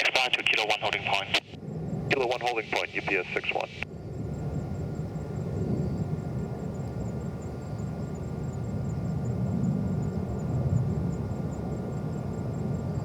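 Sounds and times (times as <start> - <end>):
distant jet engine rumble: 0.0 - 13.0.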